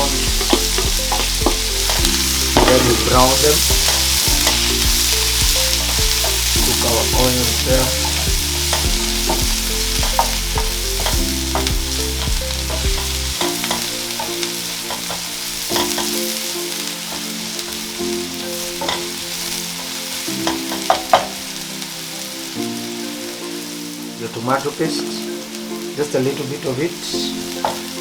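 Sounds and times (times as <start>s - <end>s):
onions sizzling in oil: 0.0s - 28.0s.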